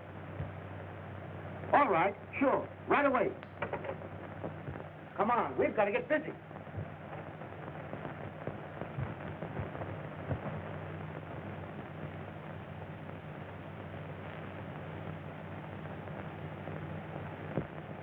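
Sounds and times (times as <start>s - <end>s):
film soundtrack hiss and crackle: 0.0s - 18.0s.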